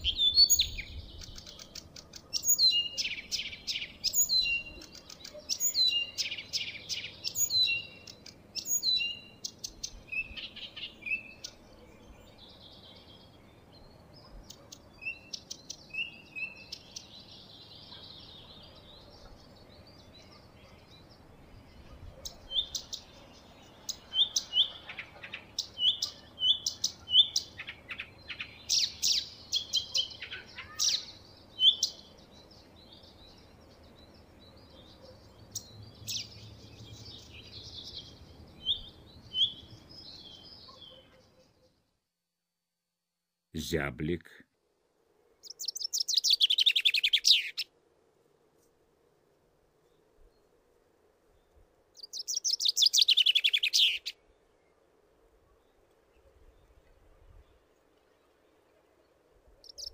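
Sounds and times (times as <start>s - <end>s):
songbird chirping: 0.0s - 42.1s, 45.2s - 59.9s.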